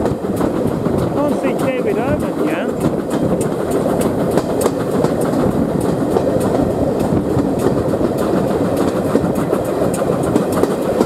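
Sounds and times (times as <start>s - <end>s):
train wheels rumbling on rail: 0.0s - 11.0s
wheel clatter clicks: 0.0s - 11.0s.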